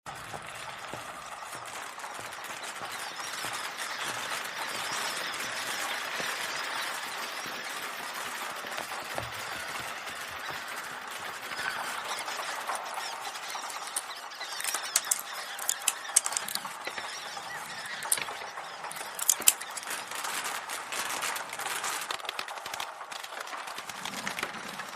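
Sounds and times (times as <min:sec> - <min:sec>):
dense clatter of small clicks: 0:00.1 - 0:24.9.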